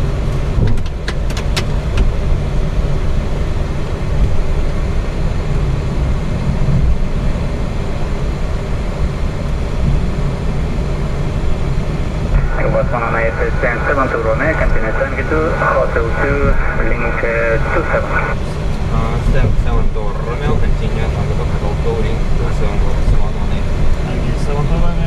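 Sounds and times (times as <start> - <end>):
jet engines idling in cockpit: 0.0 - 25.0.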